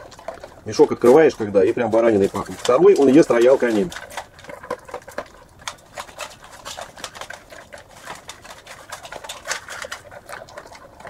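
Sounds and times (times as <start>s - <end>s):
dog crunching dry kibble: 0.0s - 11.0s
kibble clicking on metal bowl: 0.0s - 11.0s.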